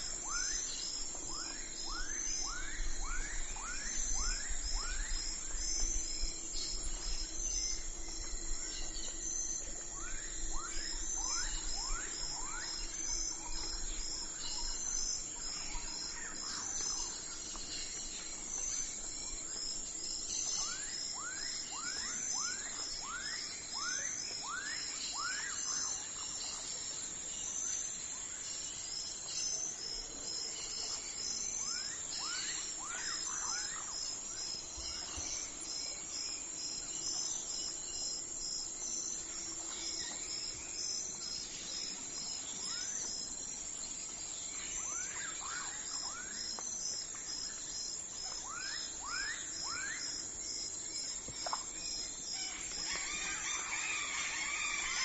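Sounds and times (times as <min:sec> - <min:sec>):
crickets chirping: 0:00.0 - 0:55.0
high insect drone: 0:00.0 - 0:55.0.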